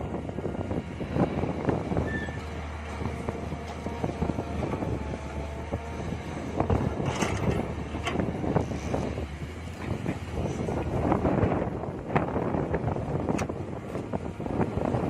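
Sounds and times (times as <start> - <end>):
mini excavator engine running: 0.0 - 15.0.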